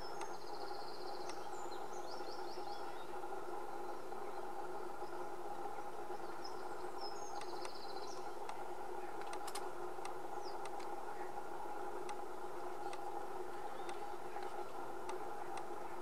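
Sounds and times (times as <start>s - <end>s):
steady hum with held tones: 0.0s - 16.0s.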